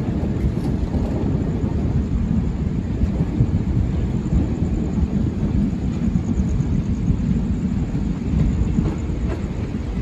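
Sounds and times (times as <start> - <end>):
train wheels rumbling on rail: 0.0 - 10.0
wind on microphone: 0.0 - 10.0.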